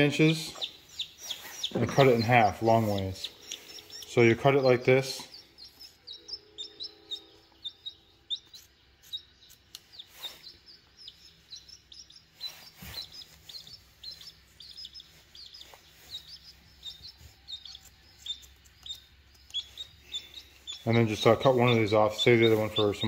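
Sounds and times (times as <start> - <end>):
chick peeping: 0.0 - 23.0.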